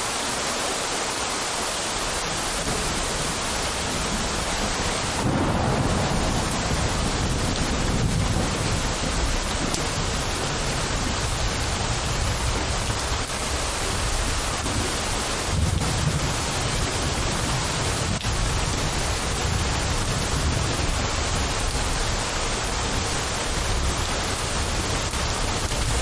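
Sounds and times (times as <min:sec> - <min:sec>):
steady rain: 0:00.0 - 0:26.0
thunder rumbling: 0:01.9 - 0:26.0.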